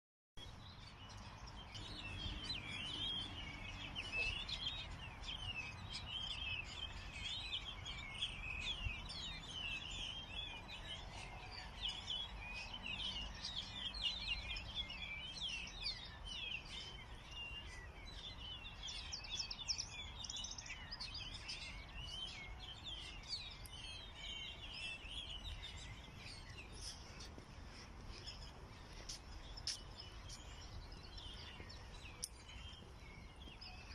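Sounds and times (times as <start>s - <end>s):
small birds chirping chorus: 0.4s - 33.9s.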